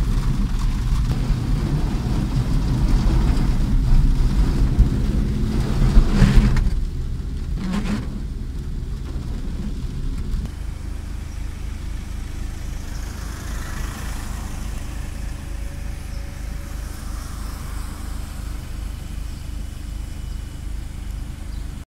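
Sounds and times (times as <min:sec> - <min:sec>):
car engine and road rumble: 0:00.0 - 0:21.8
water splashing from tyres: 0:00.0 - 0:21.8.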